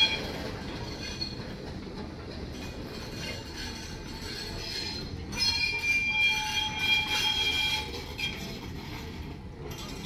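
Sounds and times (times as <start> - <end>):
train wheels squealing: 0.0 - 1.8, 2.5 - 10.0
train running rumble: 0.0 - 10.0.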